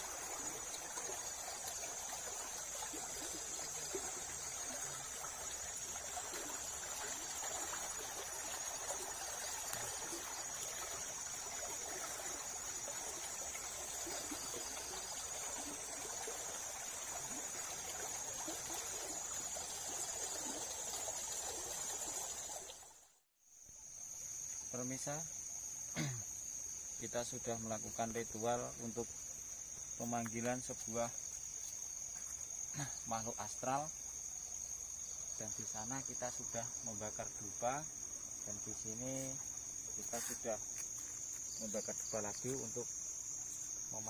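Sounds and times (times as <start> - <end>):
constant low hiss: 0.0 - 44.0
crickets chirring: 0.0 - 44.0.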